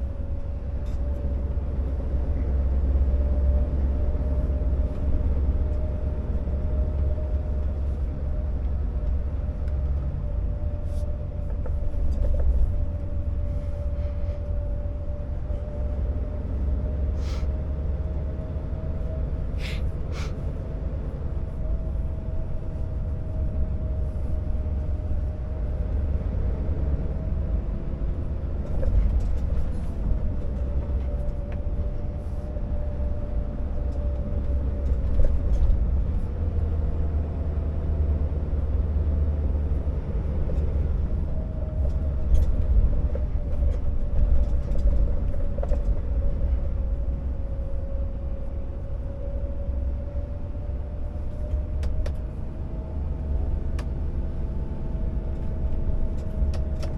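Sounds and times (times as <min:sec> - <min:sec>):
diesel truck engine rumbling: 0:00.0 - 0:56.9.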